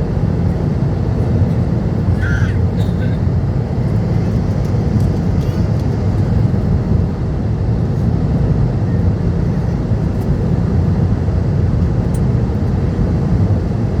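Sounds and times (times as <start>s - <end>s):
airplane cabin roar: 0.0s - 14.0s.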